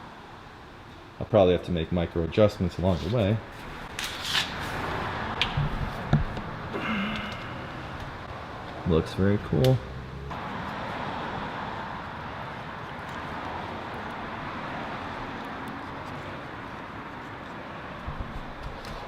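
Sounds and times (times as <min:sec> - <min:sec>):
passing road traffic: 0:03.1 - 0:19.0.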